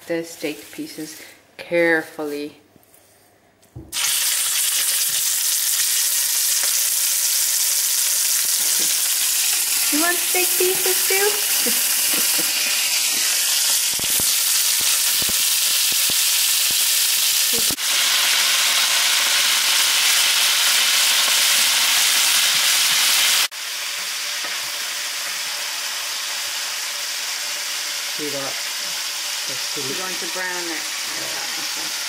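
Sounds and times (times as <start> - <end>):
meat sizzling in oil: 3.9 - 32.0.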